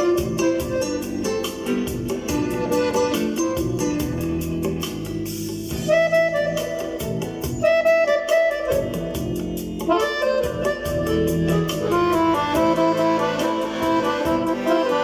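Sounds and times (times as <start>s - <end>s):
backing chords: 0.0s - 15.0s
reed-like lead melody: 0.0s - 15.0s
steady drum beat: 0.0s - 15.0s.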